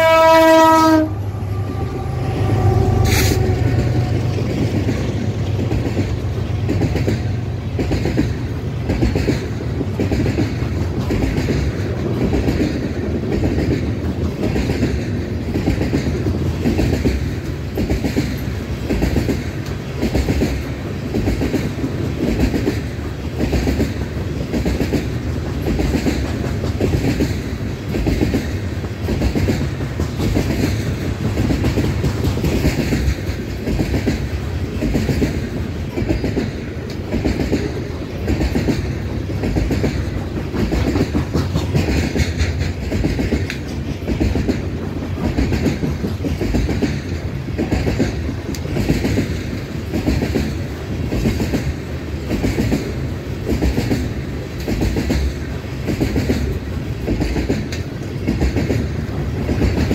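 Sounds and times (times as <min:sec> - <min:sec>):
freight train cars rolling past: 0:00.0 - 0:59.9
wheels clickety-clack on rail: 0:00.0 - 0:59.9.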